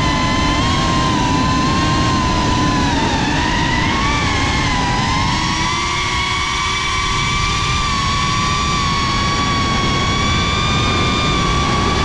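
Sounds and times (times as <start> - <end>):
drone motors whining: 0.0 - 12.0
rushing prop wash and wind: 0.0 - 12.0.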